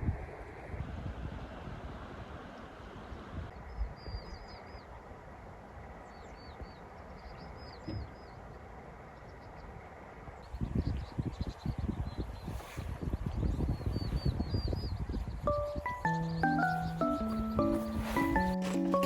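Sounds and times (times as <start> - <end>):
gusty wind noise: 0.0 - 7.2, 8.0 - 18.6
small birds chirping: 3.5 - 19.0.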